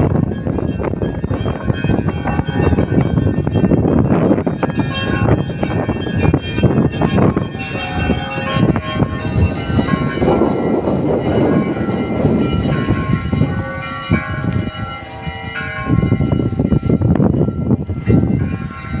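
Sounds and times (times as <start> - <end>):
church bells ringing: 0.0 - 19.0.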